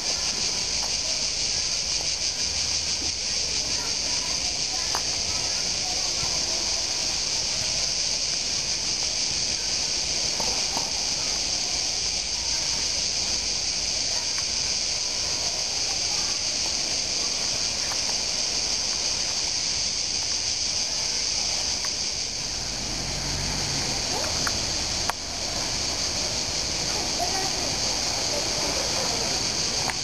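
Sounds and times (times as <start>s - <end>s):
crickets shrilling: 0.0s - 30.0s.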